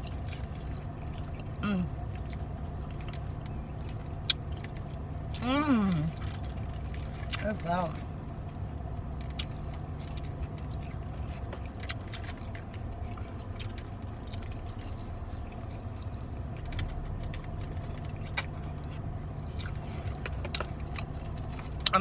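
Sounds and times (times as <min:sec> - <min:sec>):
car engine idling: 0:00.0 - 0:22.0
person chewing food: 0:00.0 - 0:22.0.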